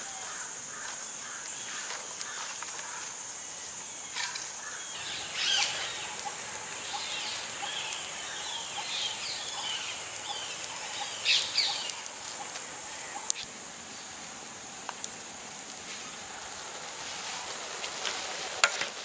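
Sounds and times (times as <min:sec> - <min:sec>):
high-pitched insect drone: 0:00.0 - 0:17.8
birds chirping: 0:00.2 - 0:16.9.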